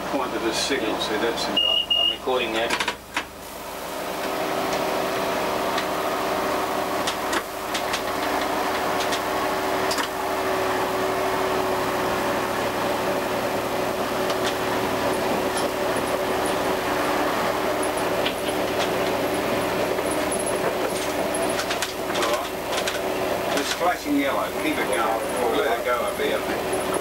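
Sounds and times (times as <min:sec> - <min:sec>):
railcar engine and transmission hum: 0:00.0 - 0:27.0.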